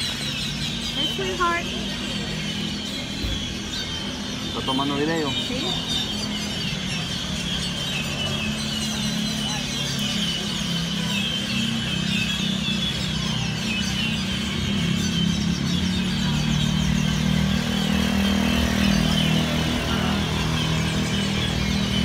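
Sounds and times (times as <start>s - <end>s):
many birds chirping: 0.0s - 22.0s.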